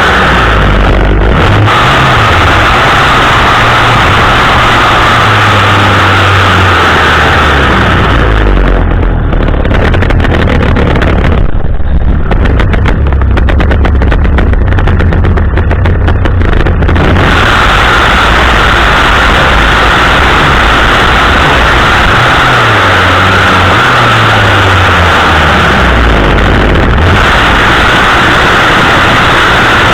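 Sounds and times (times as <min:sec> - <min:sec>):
chainsaw engine running: 0:00.0 - 0:29.9.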